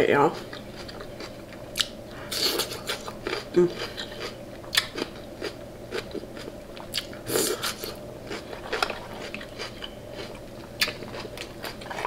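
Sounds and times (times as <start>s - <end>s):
biting and chewing crab legs: 0.4s - 12.0s.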